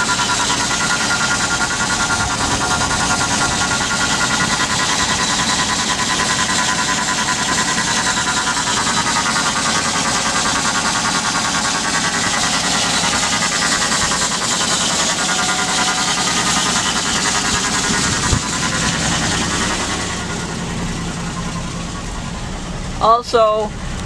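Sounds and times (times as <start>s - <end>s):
petrol engine running: 0.0s - 24.0s.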